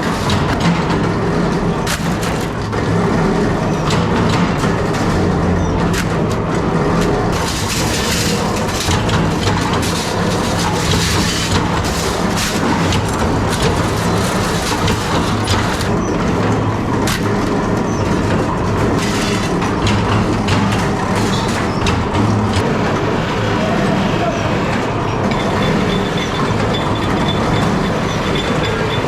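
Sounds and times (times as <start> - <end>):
factory machinery humming: 0.0 - 29.0.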